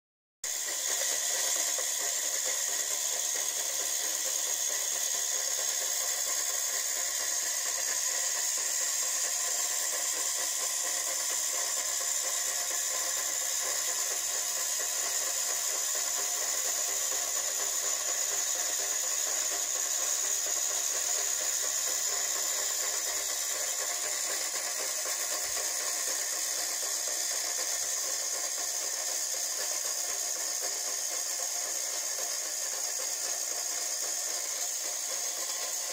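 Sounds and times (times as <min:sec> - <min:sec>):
model mechanism whirring: 0:00.5 - 0:35.9.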